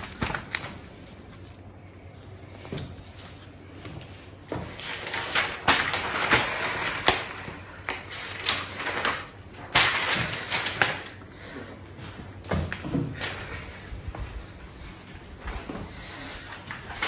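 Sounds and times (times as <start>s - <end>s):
paper pages rustling: 0.0s - 11.4s, 12.7s - 17.0s.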